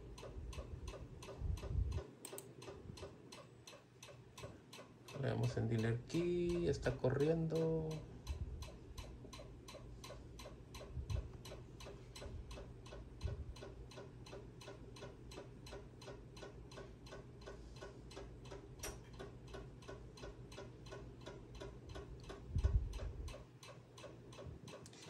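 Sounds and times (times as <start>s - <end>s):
rapid even ticking: 0.0s - 24.9s.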